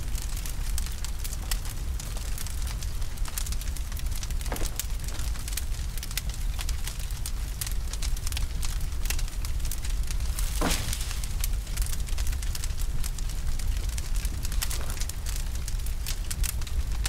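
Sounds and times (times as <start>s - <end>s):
bonfire crackling and popping: 0.0s - 17.0s
fire low rumble: 0.0s - 17.0s.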